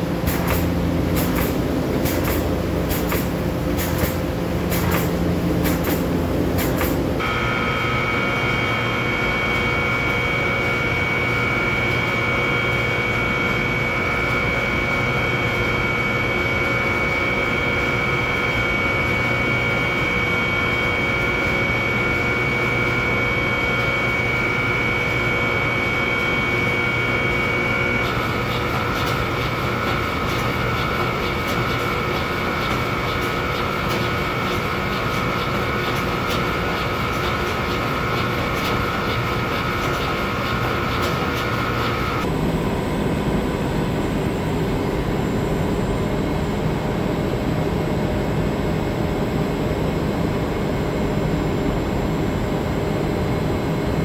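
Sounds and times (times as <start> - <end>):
machine whining over a rumble: 0.0 - 54.0.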